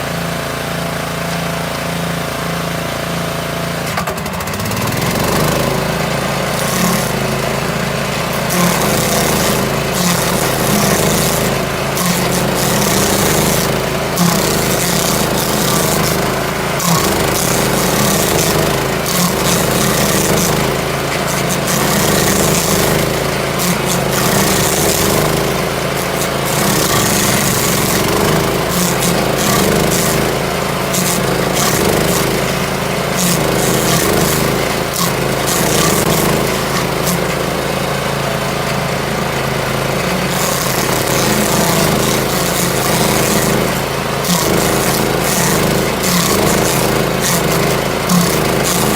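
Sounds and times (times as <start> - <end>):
stump grinder engine running: 0.0 - 48.9.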